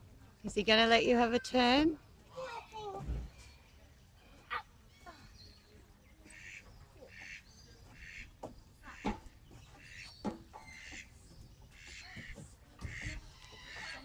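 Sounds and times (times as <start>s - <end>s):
birds calling: 1.0s - 14.0s.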